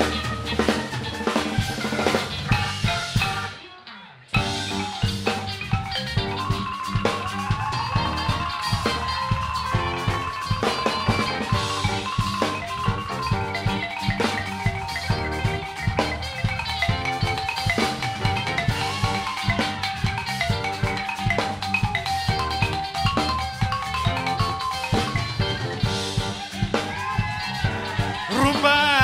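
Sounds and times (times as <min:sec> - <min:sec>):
drum kit beat: 0:00.0 - 0:03.6, 0:04.4 - 0:29.0
balafon playing: 0:04.4 - 0:29.0.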